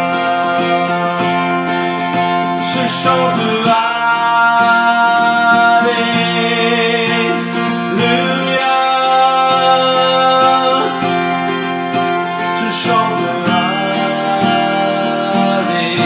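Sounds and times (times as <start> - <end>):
man singing slow worship song: 0.0 - 16.0
strummed acoustic guitar: 0.0 - 16.0.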